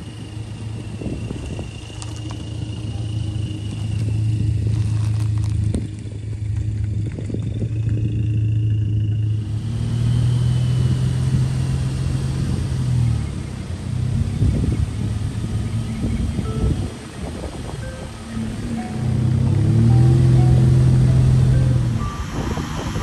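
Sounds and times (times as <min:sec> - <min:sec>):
engine and exhaust drone: 0:00.0 - 0:23.0.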